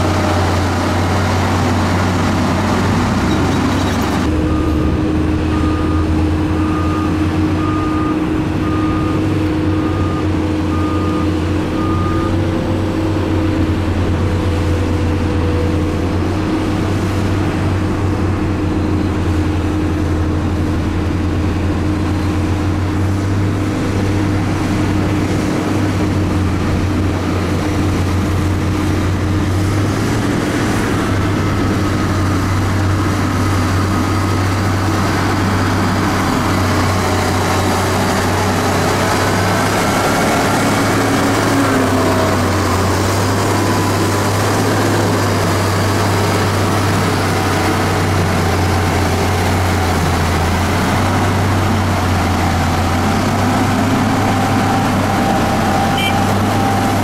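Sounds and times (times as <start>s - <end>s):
heavy machinery engine humming: 0.0s - 57.0s.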